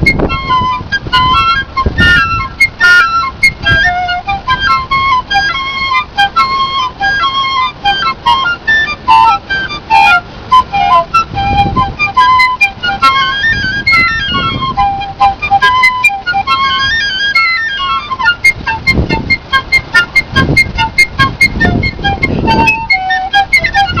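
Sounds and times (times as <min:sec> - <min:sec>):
piccolo melody: 0:00.0 - 0:24.0.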